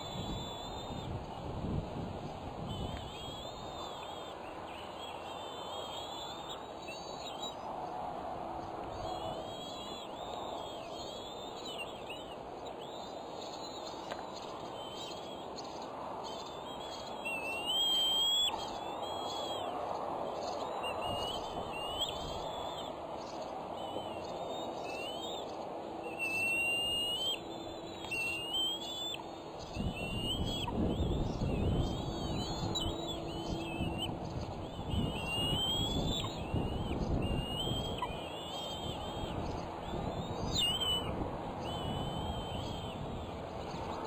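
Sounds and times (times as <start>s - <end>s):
eagles chirping whistles: 0.0s - 1.1s, 2.6s - 7.5s, 9.0s - 15.5s, 16.2s - 19.7s, 23.8s - 43.3s.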